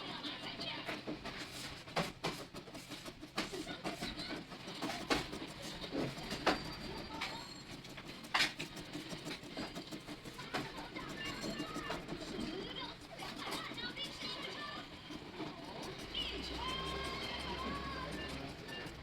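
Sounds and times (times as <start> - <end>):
scratch card being scraped: 0.1 - 19.0.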